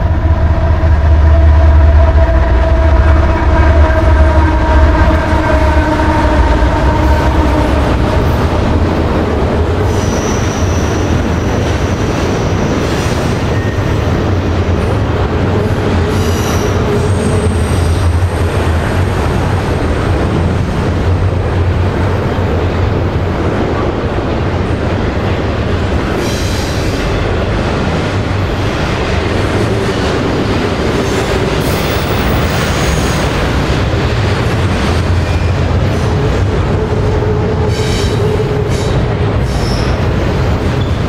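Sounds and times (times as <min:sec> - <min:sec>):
freight train rumbling on rails: 0:00.0 - 0:41.0.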